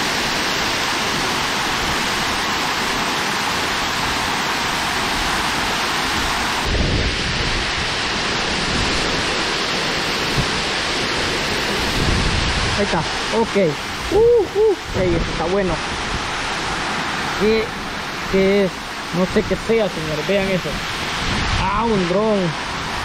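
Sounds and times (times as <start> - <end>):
water rushing at a dam: 0.0 - 23.0.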